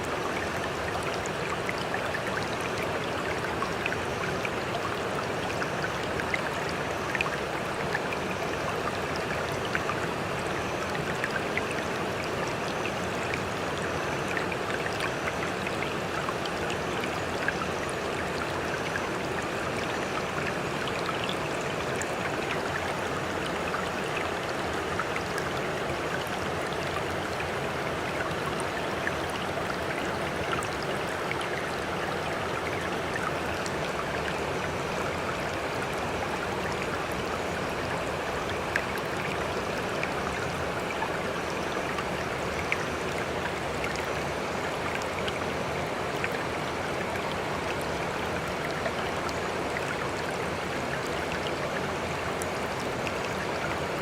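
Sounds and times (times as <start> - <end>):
sea water splashing and trickling: 0.0 - 54.0.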